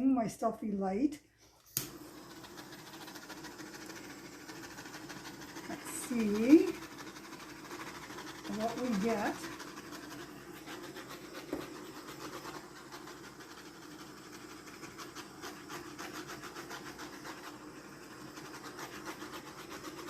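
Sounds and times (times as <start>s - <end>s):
torch flame hissing: 1.8s - 20.0s.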